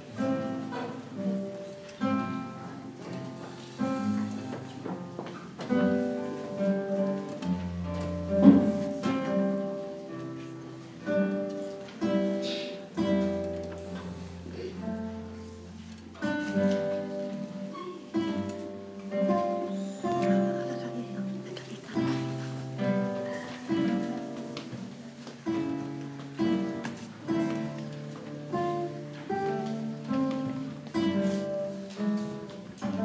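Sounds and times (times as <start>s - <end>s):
classical guitars playing a duet: 0.0s - 33.0s.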